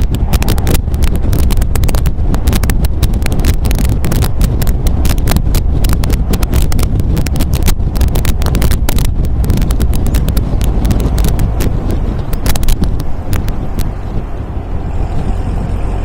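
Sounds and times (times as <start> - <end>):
sports car engine pulsing: 0.0 - 16.0
wind buffeting microphone: 0.0 - 16.0.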